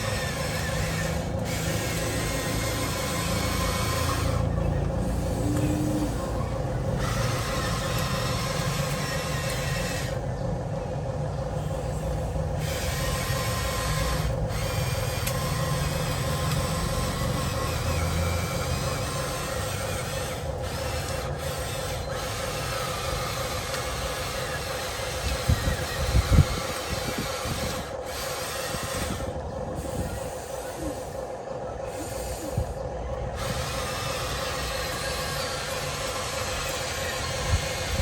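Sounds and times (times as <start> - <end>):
electric motors humming: 0.0 - 38.0.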